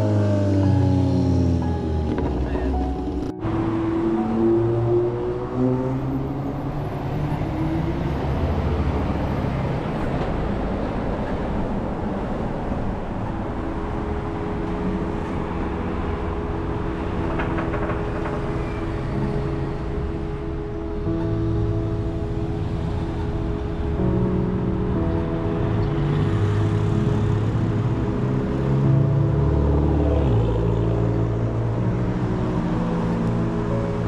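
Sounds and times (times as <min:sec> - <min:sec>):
cars driving past: 0:00.0 - 0:34.0
engine and tyre rumble: 0:00.0 - 0:34.0.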